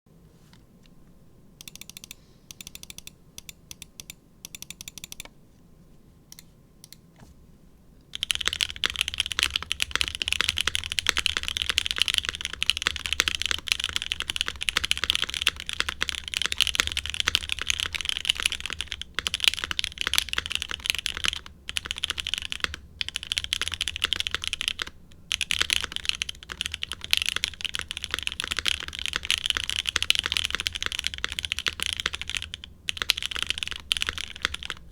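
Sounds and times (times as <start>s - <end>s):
mechanical keyboard typing: 1.6s - 5.3s, 8.1s - 34.9s.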